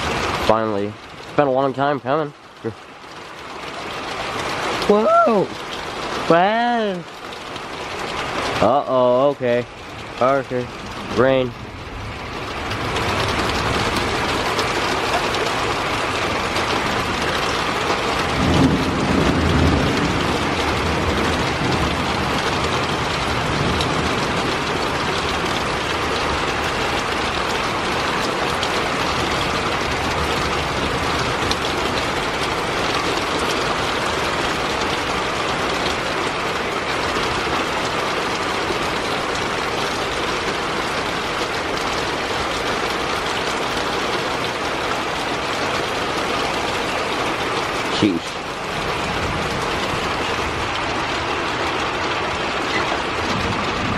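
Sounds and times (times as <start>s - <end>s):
heavy rain pouring: 0.0s - 53.9s
thunder rumbling: 9.7s - 53.9s.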